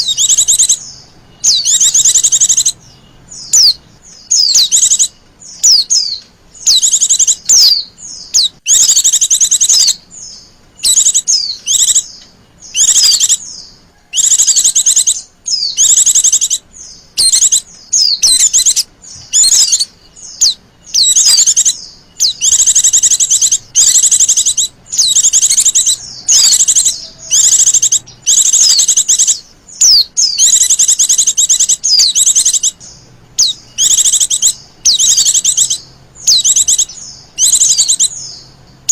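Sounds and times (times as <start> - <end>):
bird high trilled calls: 0.0 - 38.9.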